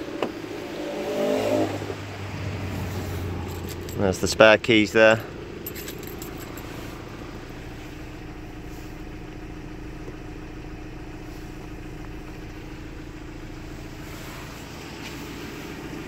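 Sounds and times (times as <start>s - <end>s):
diesel engine idling: 1.8s - 16.0s.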